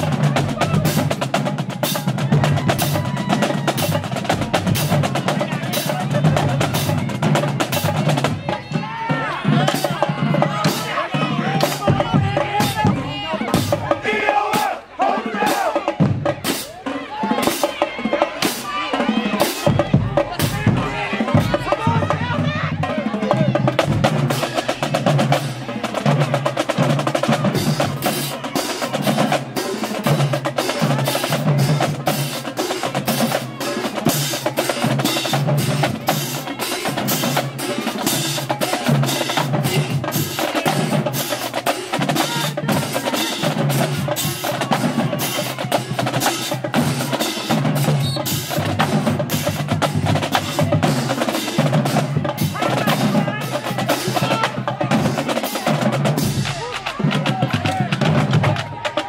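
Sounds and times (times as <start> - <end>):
lower drum beats: 0.0 - 59.0
rapid snare drum strokes: 0.0 - 59.0.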